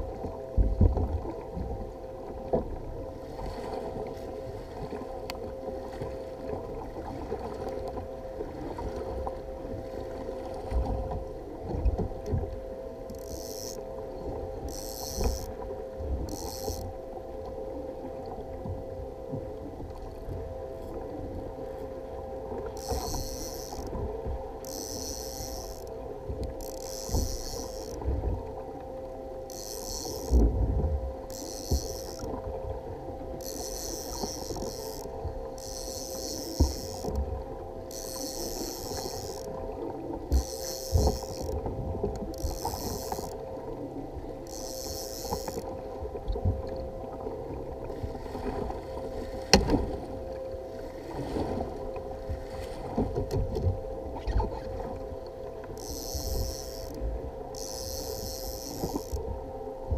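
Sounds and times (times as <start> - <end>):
water noise: 0.0 - 59.9.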